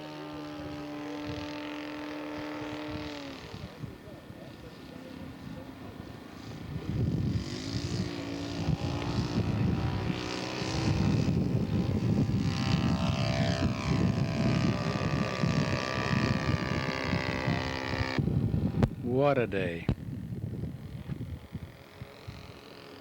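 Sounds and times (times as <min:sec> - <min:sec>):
model airplane engine running: 0:00.0 - 0:23.0
wind buffeting microphone: 0:00.1 - 0:23.0.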